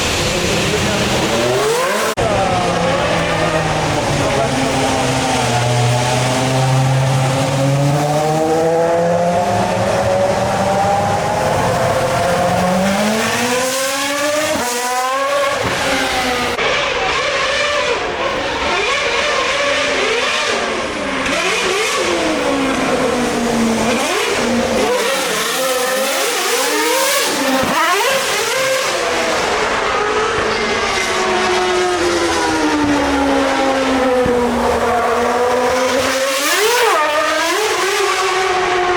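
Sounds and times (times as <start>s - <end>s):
racing car engine revving: 0.0s - 38.9s.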